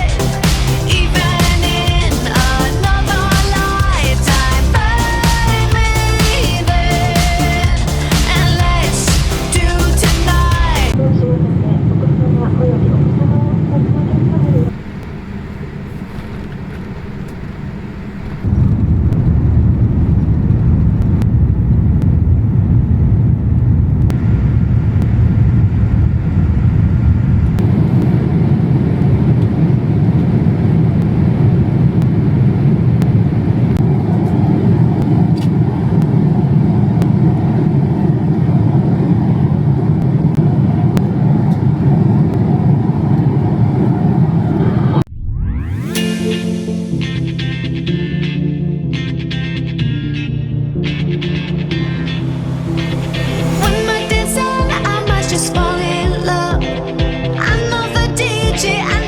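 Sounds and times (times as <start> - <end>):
vehicle rumbling in motion: 0.0 - 46.0, 49.8 - 53.9.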